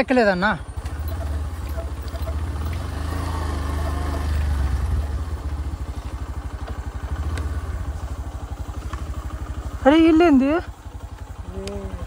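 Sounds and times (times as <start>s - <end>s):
motorcycle engine pulling uphill: 0.0s - 12.0s.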